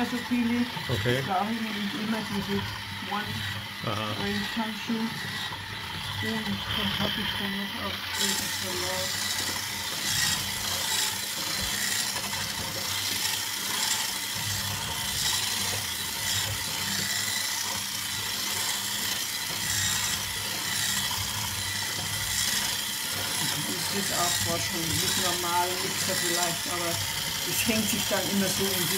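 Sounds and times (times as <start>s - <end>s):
electric hand mixer churning dough: 0.0s - 28.9s.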